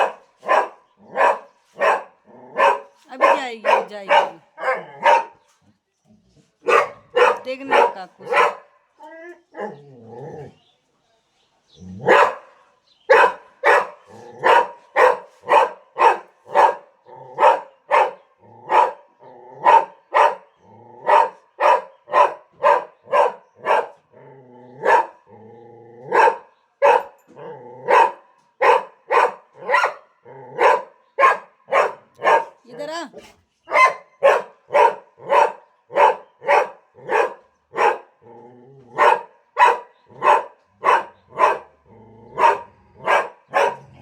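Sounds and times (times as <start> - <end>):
dog barking: 0.0 - 5.5, 6.6 - 8.9, 12.0 - 24.2, 24.8 - 25.3, 26.1 - 38.2, 38.9 - 44.0.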